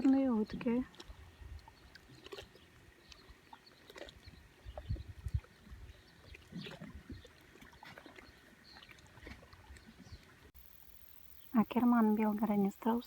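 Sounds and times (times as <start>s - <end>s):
small waves lapping and splashing: 0.0s - 10.6s.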